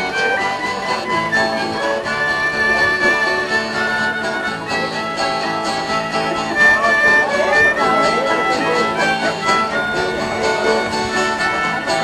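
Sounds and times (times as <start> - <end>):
fiddle melody: 0.0 - 12.0
strummed acoustic guitar: 0.0 - 12.0.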